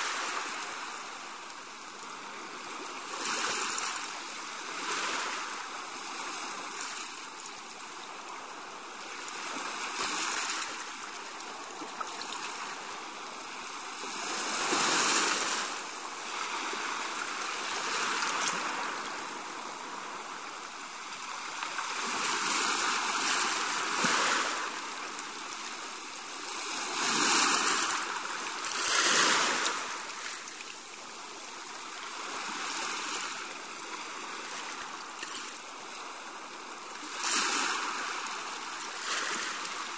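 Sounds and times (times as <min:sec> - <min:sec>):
seawater surging and draining: 0:00.0 - 0:39.9.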